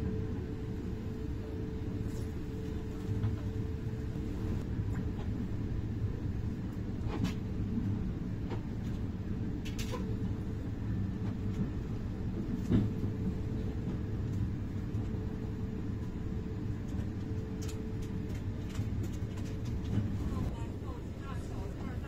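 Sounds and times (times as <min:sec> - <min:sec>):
train carriage rumble: 0:00.0 - 0:22.0.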